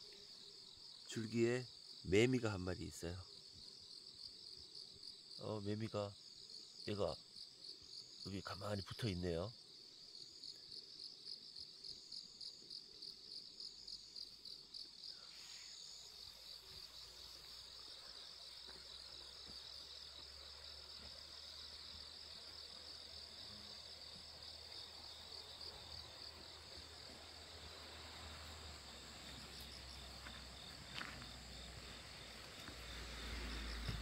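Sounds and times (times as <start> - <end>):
grass insects chirping: 0.0 - 34.0.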